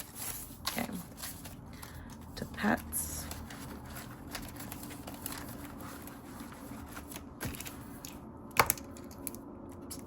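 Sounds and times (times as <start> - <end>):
paper money rustling: 0.0 - 8.1.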